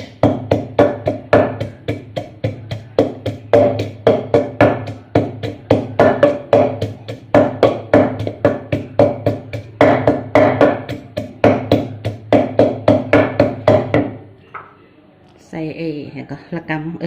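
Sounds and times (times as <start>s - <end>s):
pestle pounding in a ringing mortar: 0.1s - 14.3s.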